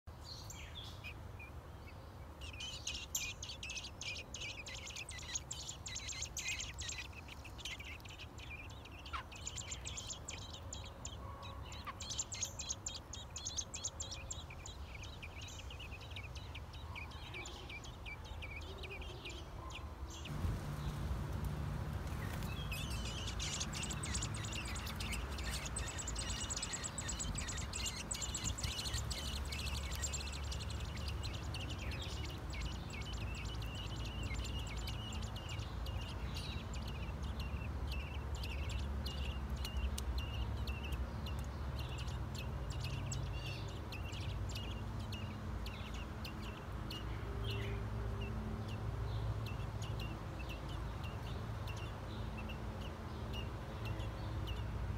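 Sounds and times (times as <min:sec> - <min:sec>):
birds chirping: 0:00.0 - 0:54.9
low background rumble: 0:02.5 - 0:50.0.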